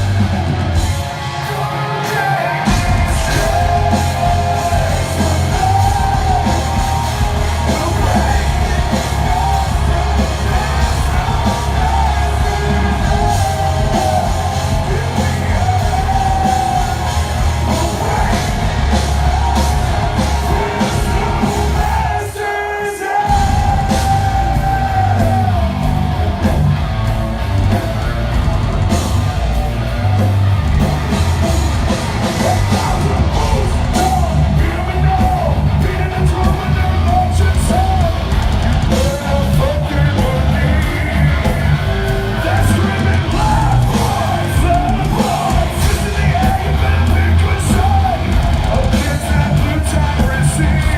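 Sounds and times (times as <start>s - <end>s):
heavy metal band playing: 0.0s - 50.9s
loud strained singing: 0.0s - 50.9s.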